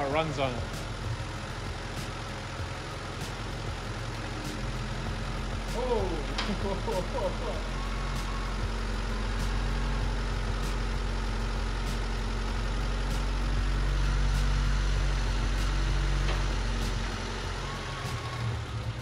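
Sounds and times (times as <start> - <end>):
car engine idling roughly: 0.0 - 19.0.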